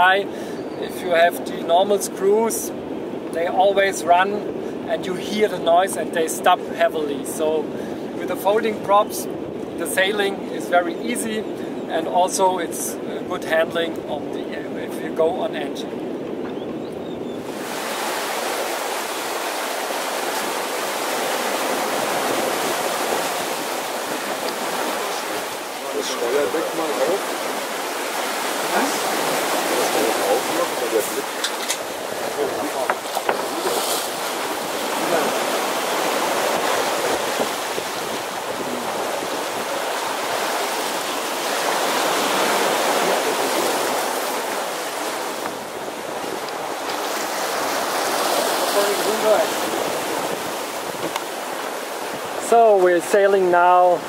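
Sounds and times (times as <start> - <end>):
water rushing along hull: 0.0 - 54.0.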